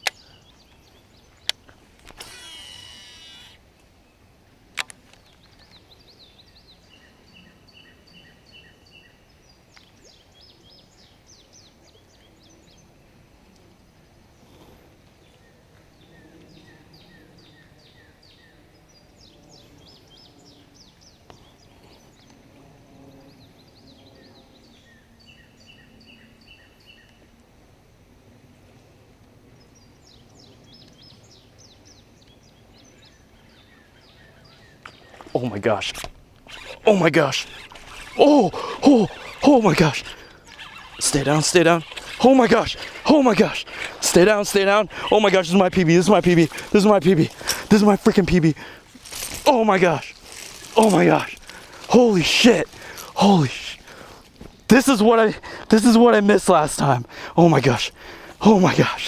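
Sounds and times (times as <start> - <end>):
small birds singing: 0.0 - 27.4, 28.6 - 59.0
low steady background noise: 0.0 - 59.0
songbird chirping: 0.0 - 59.0.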